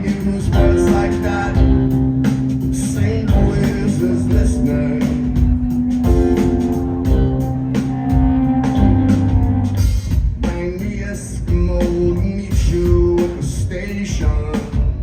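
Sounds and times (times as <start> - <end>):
drum kit: 0.0 - 15.0
guitar: 0.0 - 15.0
rock band playing: 0.0 - 15.0.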